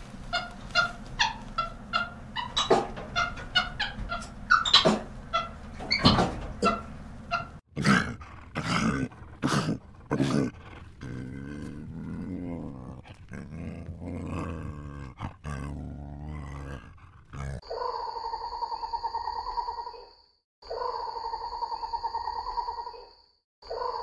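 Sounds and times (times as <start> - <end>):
animal calling: 0.3 - 20.1.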